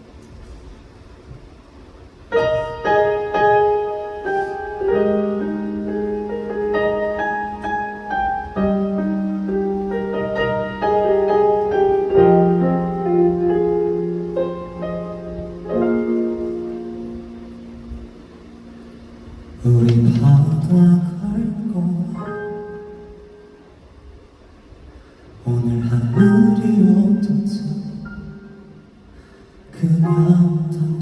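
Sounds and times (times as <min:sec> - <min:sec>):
slow gentle piano: 0:00.0 - 0:31.0.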